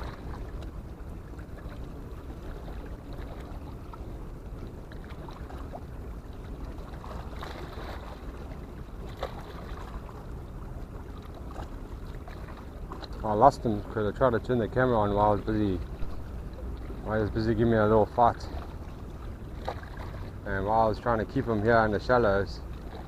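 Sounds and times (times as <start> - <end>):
harbour water washing: 0.0 - 23.0
wind rumble on microphone: 0.0 - 23.0.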